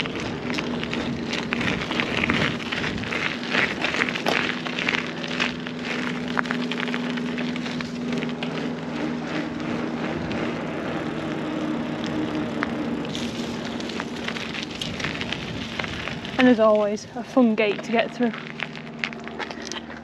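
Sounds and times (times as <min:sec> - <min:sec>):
bike tyres crunching on trail: 0:00.0 - 0:20.0
steady low hum: 0:00.0 - 0:20.0.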